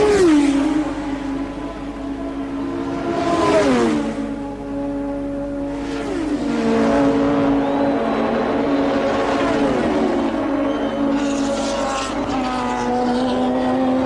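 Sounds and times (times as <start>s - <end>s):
race cars passing at high revs: 0.0s - 14.0s.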